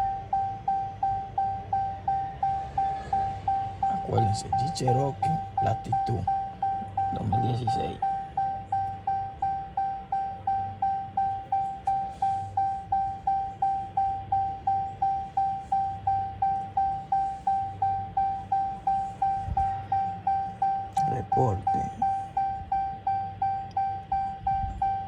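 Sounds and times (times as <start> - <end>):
electronic warning chime dinging: 0.0 - 25.0.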